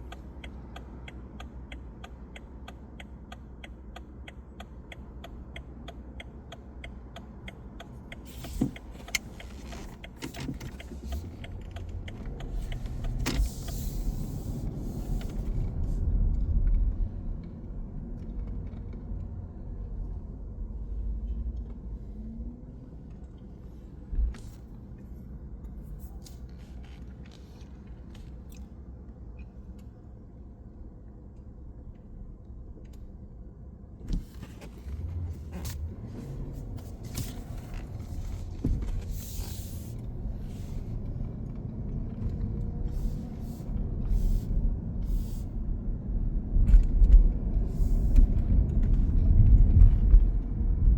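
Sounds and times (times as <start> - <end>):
rumble of passing vehicles: 0.0 - 50.9.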